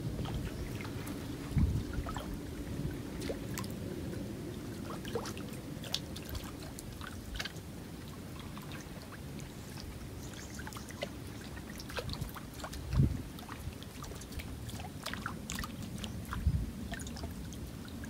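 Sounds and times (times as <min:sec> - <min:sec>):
low water wash: 0:00.0 - 0:18.0
small water splashes and trickles: 0:00.0 - 0:18.0.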